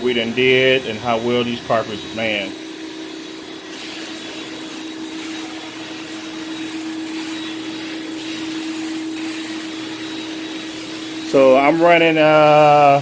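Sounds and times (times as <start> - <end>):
carpet extractor motor hum: 0.0 - 13.0
cleaning wand hissing: 1.2 - 13.0.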